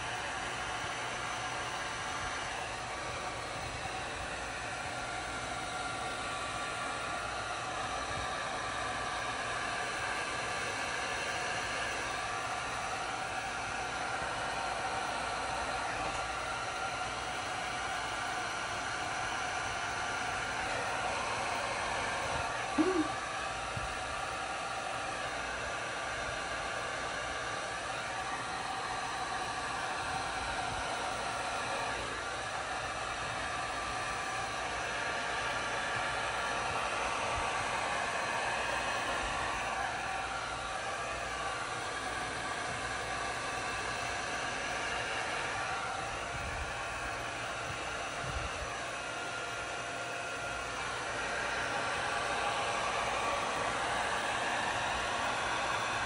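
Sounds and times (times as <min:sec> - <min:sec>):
heat gun blowing: 0:00.0 - 0:56.0.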